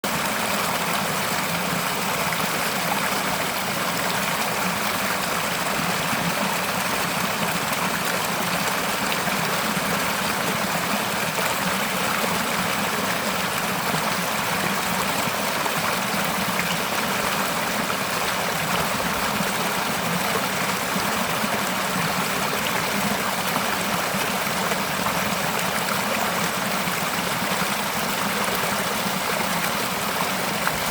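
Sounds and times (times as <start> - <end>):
stream flowing over rocks: 0.0 - 30.9.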